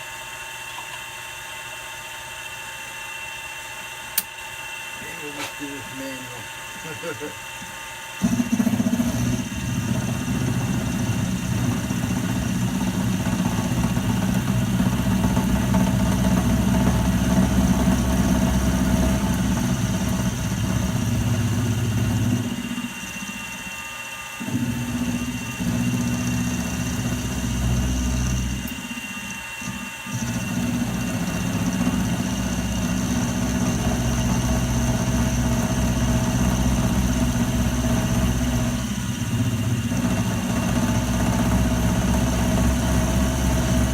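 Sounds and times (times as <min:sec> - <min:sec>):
milling machine humming: 0:00.0 - 0:43.9.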